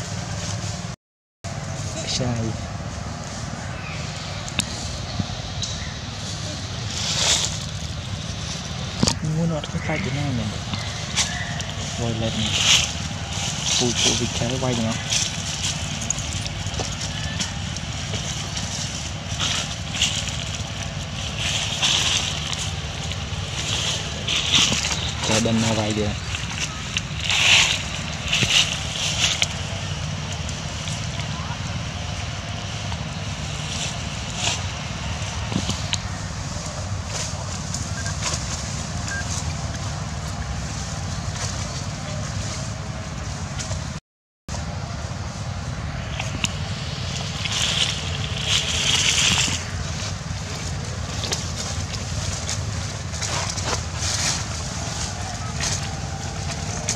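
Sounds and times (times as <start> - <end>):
steady low rumble: 0.0 - 56.9
dry leaves crackling and rustling: 1.5 - 56.9
wind noise on microphone: 2.6 - 44.0, 44.6 - 56.9.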